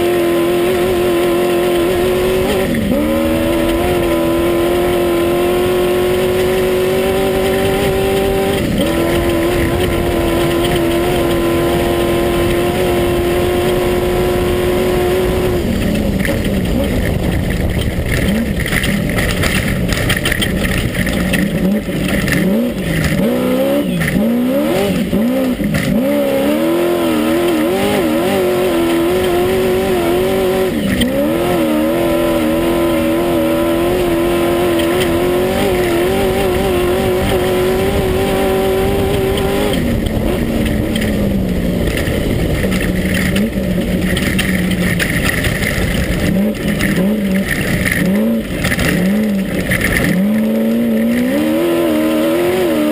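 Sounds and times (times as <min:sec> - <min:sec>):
racing buggy engine revving: 0:00.0 - 0:52.9
steady rush of noise: 0:00.0 - 0:52.9.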